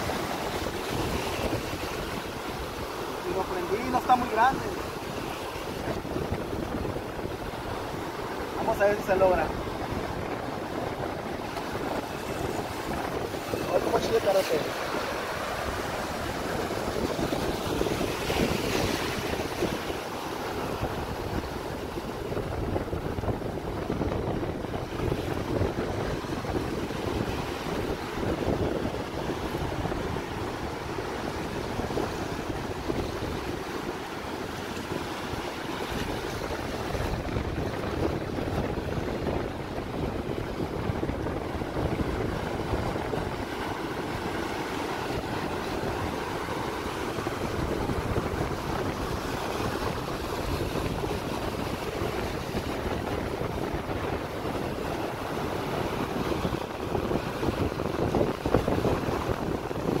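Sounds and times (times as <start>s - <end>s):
surf breaking on beach: 0.0s - 60.0s
wind noise on microphone: 0.0s - 60.0s.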